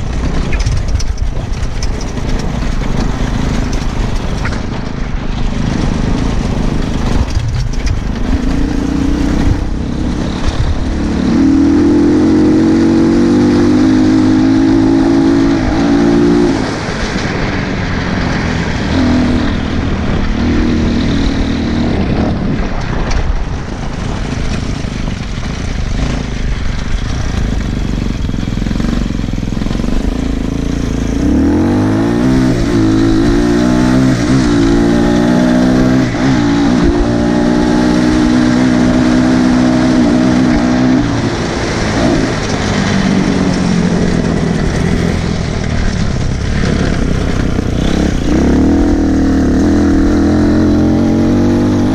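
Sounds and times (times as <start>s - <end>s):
dirt bike engine revving: 0.0s - 23.2s, 23.9s - 51.9s.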